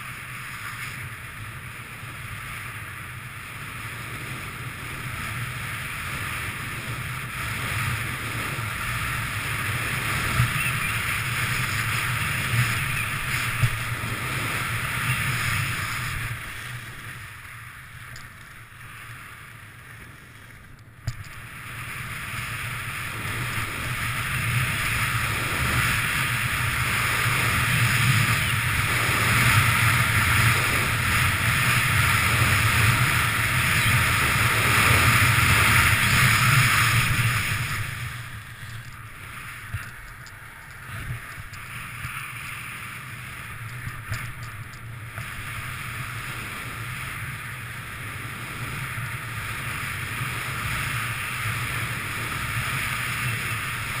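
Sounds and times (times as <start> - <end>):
skis scraping over snow: 0.0 - 54.0
wind rushing across microphone: 0.0 - 54.0.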